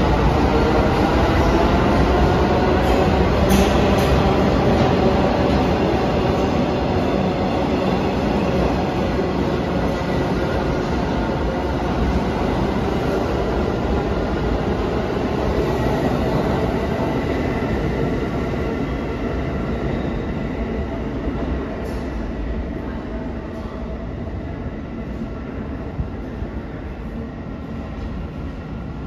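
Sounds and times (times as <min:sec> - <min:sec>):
train rumbling along rails: 0:00.0 - 0:29.0.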